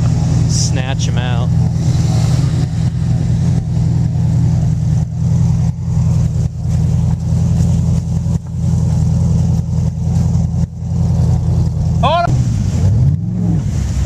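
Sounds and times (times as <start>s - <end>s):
engine running under load: 0.0s - 14.0s
tyres spinning in snow: 0.0s - 14.0s.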